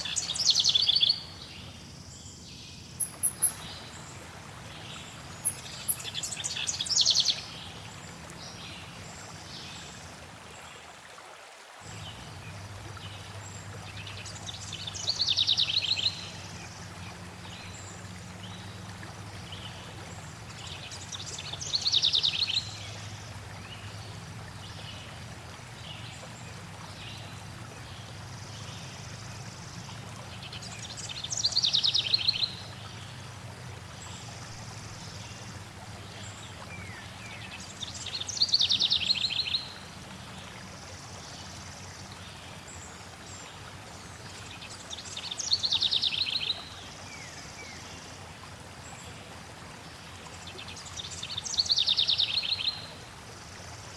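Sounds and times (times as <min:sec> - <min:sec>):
songbird singing: 0:00.0 - 0:10.1, 0:11.9 - 0:33.3, 0:33.9 - 0:40.5, 0:44.2 - 0:48.0, 0:50.3 - 0:53.0
flowing water: 0:00.0 - 0:53.9.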